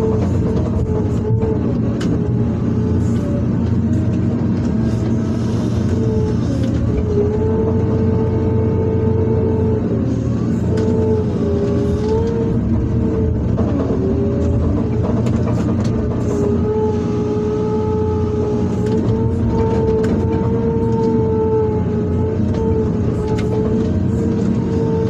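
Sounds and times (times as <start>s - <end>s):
excavator diesel engine running: 0.0s - 25.0s
hydraulic whine: 0.0s - 25.0s.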